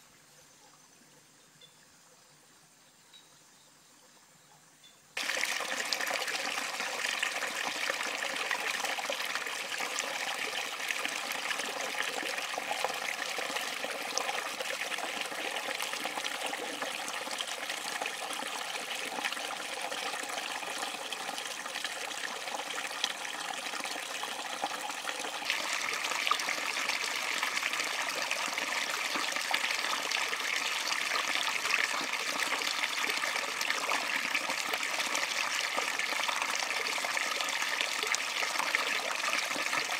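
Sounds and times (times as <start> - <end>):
stream water rushing over rocks: 5.2 - 39.9.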